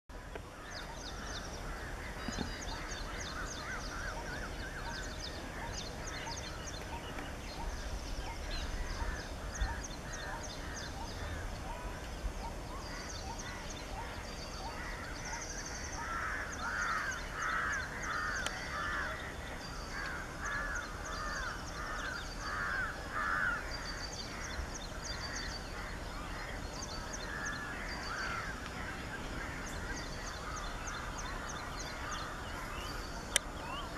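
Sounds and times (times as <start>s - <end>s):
rough mid-pitched bird calls: 0.2s - 33.9s.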